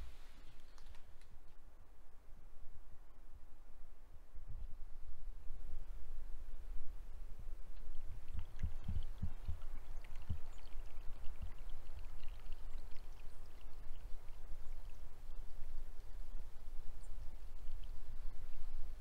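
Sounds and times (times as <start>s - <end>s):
wind rumble on microphone: 2.6s - 19.0s.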